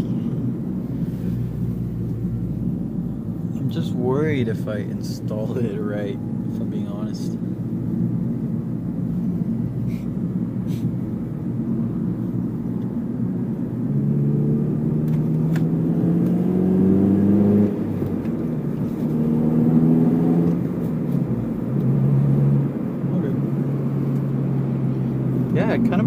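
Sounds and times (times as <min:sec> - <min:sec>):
car engine accelerating: 0:00.0 - 0:26.0
road noise: 0:00.0 - 0:26.0.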